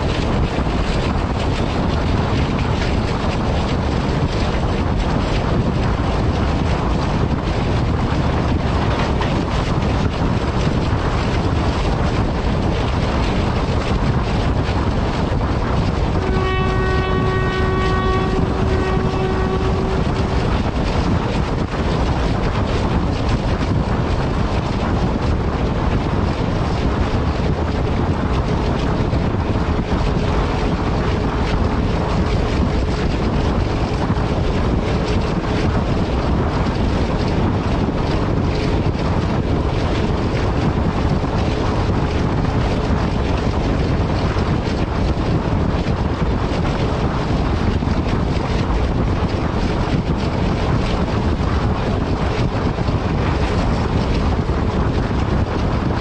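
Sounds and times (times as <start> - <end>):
diesel locomotive rumbling: 0.0 - 56.0
wind noise on microphone: 0.0 - 56.0.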